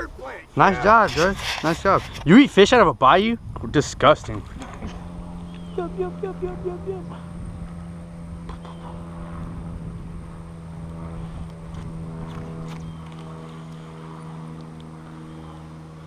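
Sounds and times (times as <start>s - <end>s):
steady motor drone: 0.0s - 16.0s.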